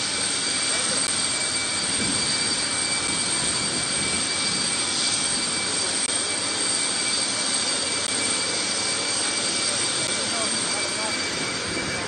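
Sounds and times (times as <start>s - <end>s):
jet turbine whine: 0.0s - 12.0s.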